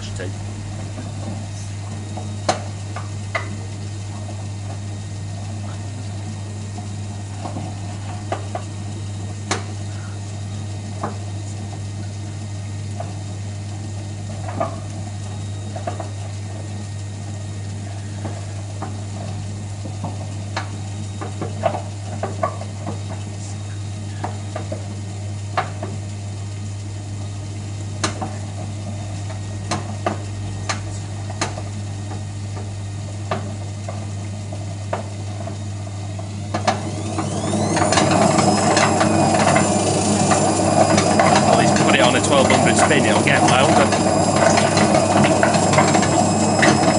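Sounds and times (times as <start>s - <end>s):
motor whine: 0.0s - 46.9s
washing machine drum humming: 0.0s - 46.9s.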